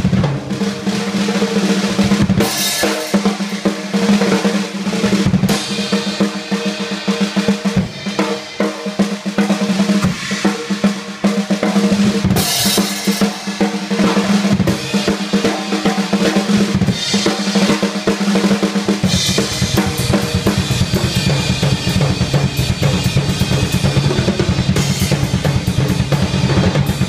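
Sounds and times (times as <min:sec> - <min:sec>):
drum solo: 0:00.0 - 0:27.0.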